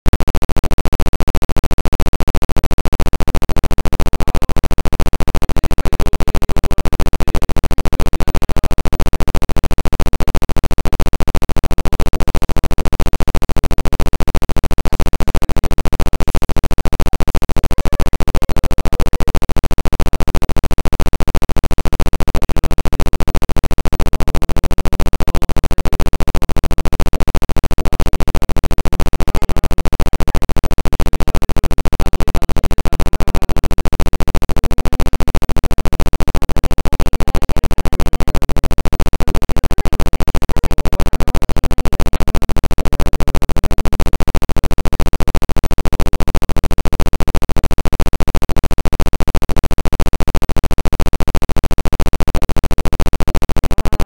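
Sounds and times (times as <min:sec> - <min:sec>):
music with rapid pulse: 0:00.1 - 0:54.0.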